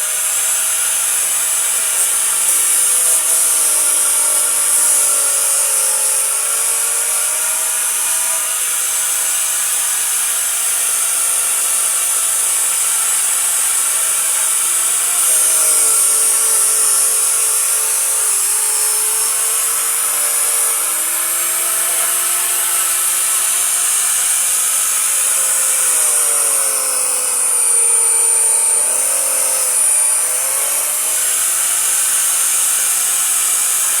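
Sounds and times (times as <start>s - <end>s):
electric power tool running: 0.0s - 34.0s.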